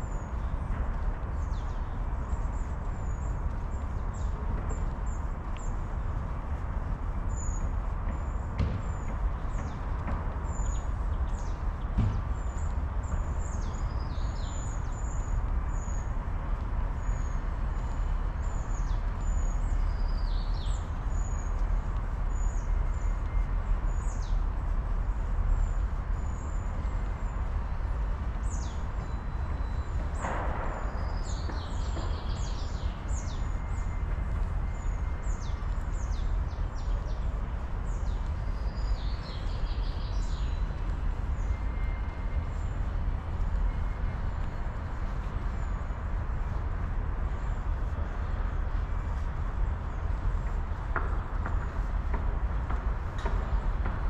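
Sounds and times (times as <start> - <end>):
songbirds chirping: 0.0 - 54.0
steady low rumble: 0.0 - 54.0.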